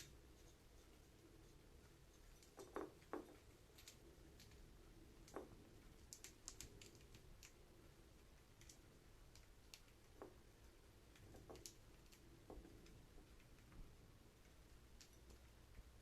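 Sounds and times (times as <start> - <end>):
budgies pecking and scratching: 0.0 - 16.0.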